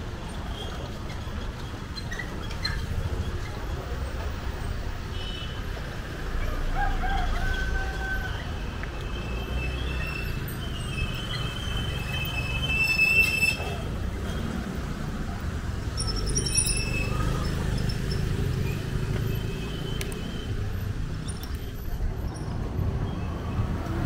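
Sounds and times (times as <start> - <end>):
street traffic rumbling: 0.0 - 24.0.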